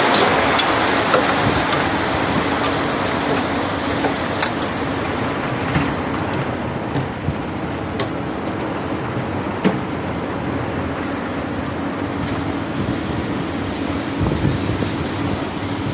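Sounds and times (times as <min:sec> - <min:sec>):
hoist machine engines droning: 0:00.0 - 0:15.9.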